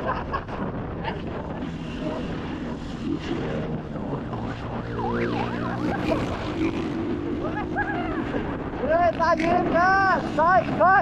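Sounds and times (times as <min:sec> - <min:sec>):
wind and road noise: 0:00.0 - 0:11.0
motorcycle engine running: 0:00.8 - 0:11.0.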